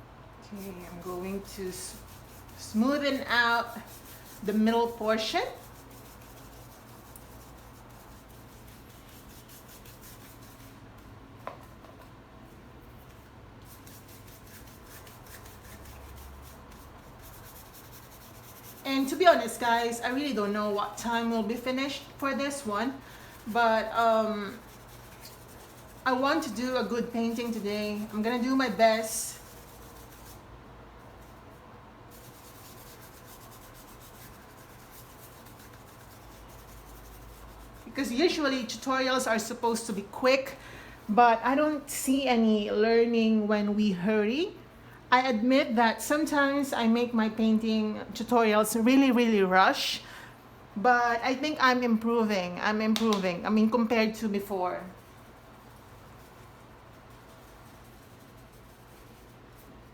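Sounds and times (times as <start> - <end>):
low steady hum: 0.0 - 59.9
paintbrush rubbing on surface: 0.5 - 42.1, 53.0 - 59.9.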